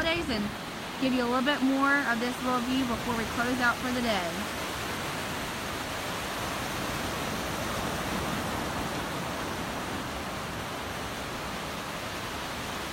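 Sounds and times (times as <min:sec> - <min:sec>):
surf washing onto beach: 0:00.0 - 0:12.9.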